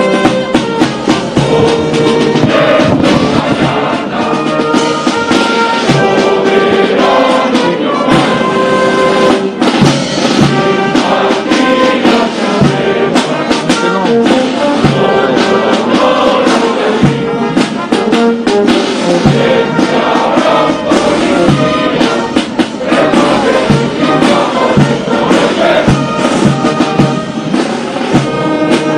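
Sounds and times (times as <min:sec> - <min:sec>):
brass band playing a hymn: 0:00.0 - 0:28.9
drum strokes: 0:00.0 - 0:28.9
voices singing: 0:00.0 - 0:28.9.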